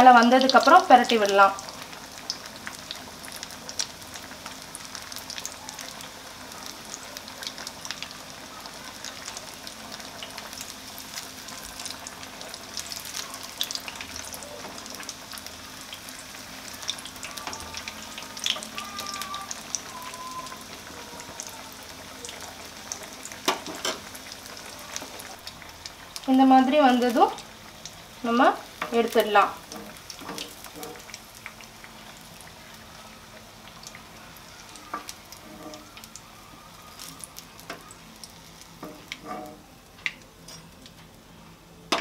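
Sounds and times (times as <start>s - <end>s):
food frying in hot oil: 0.0s - 42.0s.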